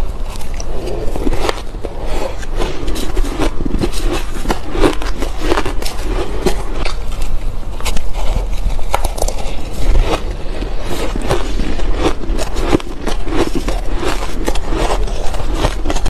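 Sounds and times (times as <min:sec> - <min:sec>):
shaved ice being chewed: 0:00.0 - 0:16.0.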